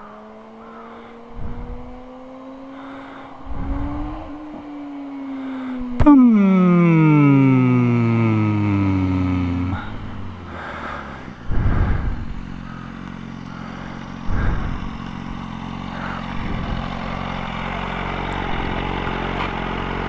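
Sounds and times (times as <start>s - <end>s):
motorcycle engine idling: 0.0s - 20.0s
motorcycle engine surges: 0.0s - 20.0s.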